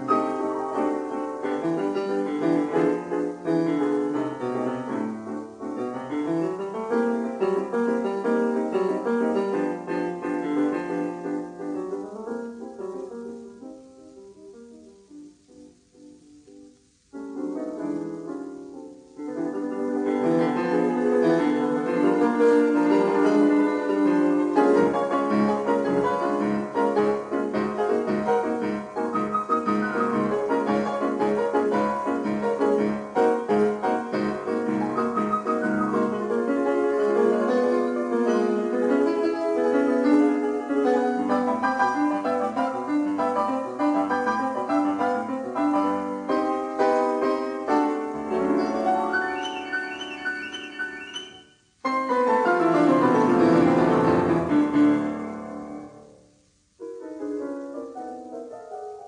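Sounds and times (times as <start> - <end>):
classical piano music: 0.0 - 59.0.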